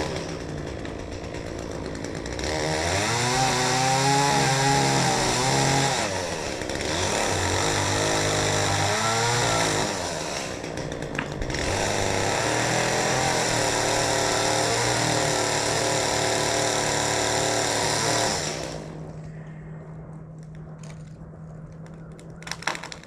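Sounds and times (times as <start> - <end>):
chainsaw cutting wood: 0.0 - 19.1.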